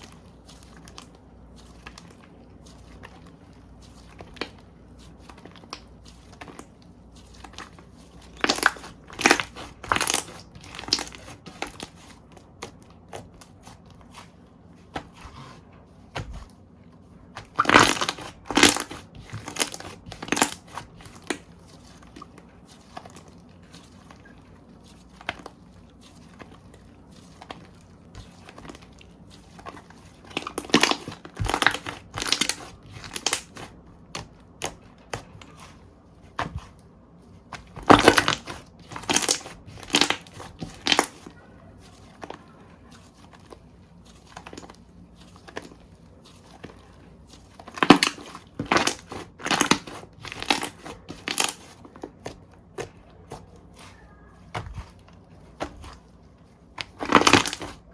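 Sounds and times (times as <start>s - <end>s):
hands squishing slime: 0.0s - 57.9s.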